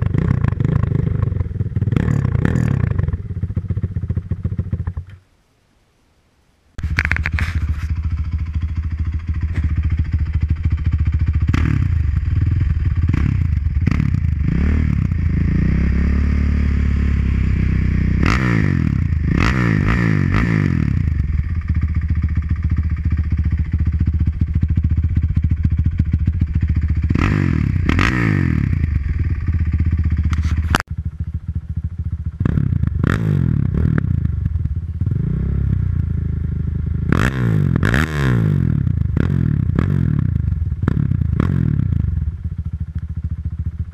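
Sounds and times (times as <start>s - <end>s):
quad engine idling and revving: 0.0s - 5.0s, 6.8s - 43.9s.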